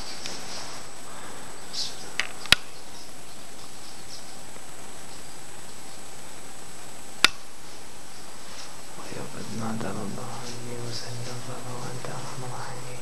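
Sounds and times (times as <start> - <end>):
background hiss: 0.0 - 13.0
faint high whine: 0.0 - 13.0.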